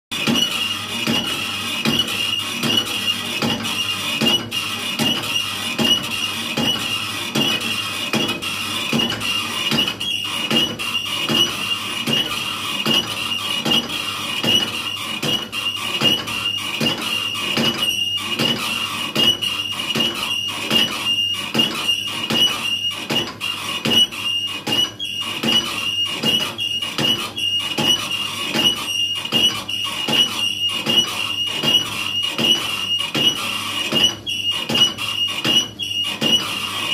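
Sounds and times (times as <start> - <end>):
machine knocking wooden bat: 0.2 - 36.9.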